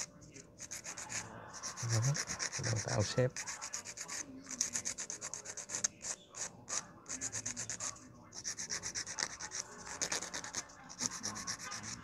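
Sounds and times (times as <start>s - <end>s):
nail file rasping: 0.6s - 12.0s.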